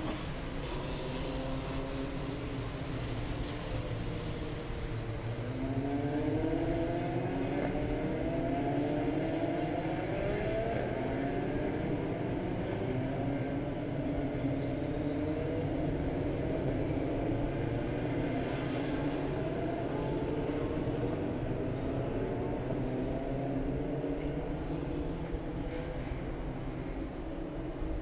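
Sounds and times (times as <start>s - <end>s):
race cars accelerating past: 0.0s - 27.6s.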